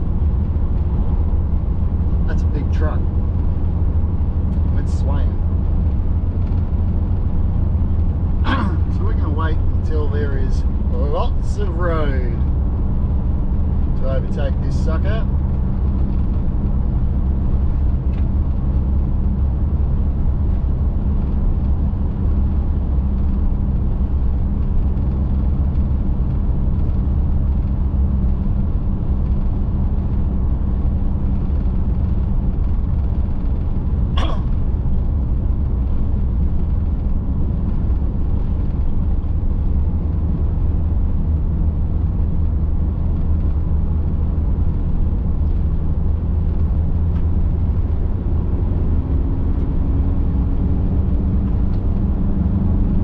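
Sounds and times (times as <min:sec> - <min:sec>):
engine and tyres droning: 0:00.0 - 0:53.0.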